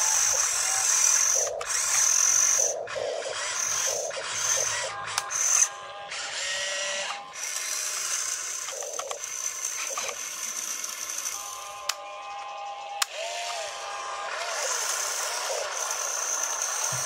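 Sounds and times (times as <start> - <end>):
toy excavator motors whining: 0.0 - 17.0.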